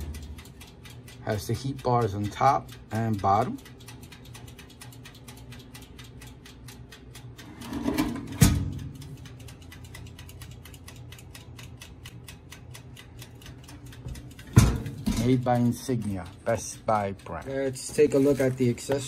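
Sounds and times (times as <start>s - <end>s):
rapid ticking: 0.0s - 7.5s, 8.7s - 19.0s.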